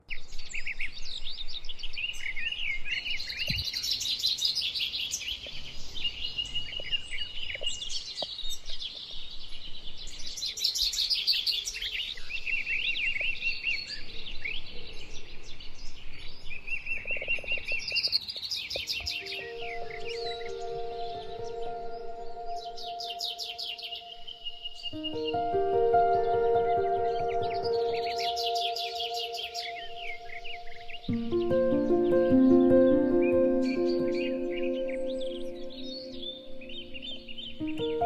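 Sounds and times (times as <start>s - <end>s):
songbirds singing: 0.0s - 38.0s.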